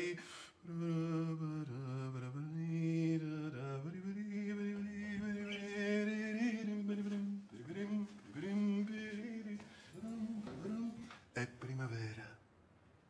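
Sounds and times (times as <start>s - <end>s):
man singing wordless tune: 0.0s - 12.3s.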